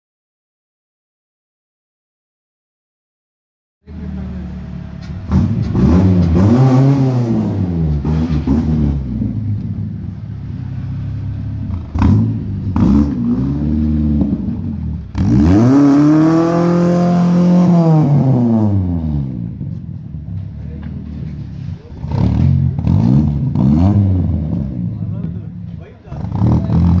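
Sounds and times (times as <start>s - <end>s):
car engine revving: 3.9s - 27.0s.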